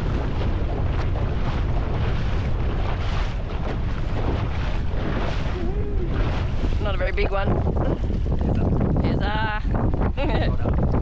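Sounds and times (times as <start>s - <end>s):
outboard motor running: 0.0s - 11.0s
water rushing past hull: 0.0s - 11.0s
wind buffeting microphone: 0.0s - 11.0s.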